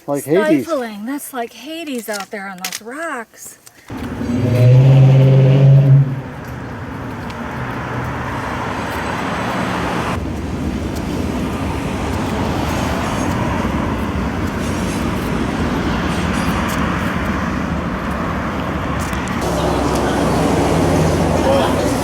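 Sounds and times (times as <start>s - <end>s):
vehicle road noise: 3.9s - 22.0s.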